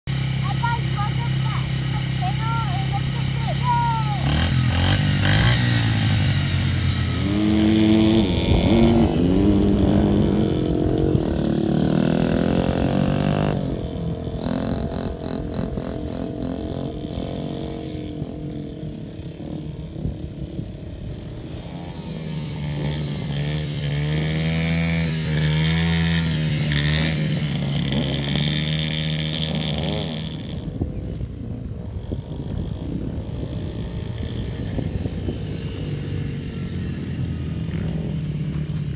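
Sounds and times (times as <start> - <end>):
dirt bike engine revving: 0.1 - 38.9.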